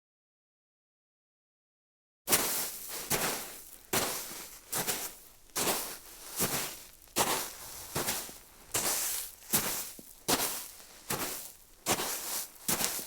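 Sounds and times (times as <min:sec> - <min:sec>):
footsteps crunching on snow: 0:02.3 - 0:13.0.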